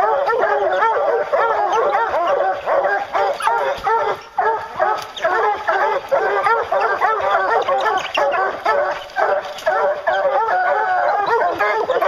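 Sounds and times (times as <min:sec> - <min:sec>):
hounds barking and baying: 0:00.0 - 0:12.0.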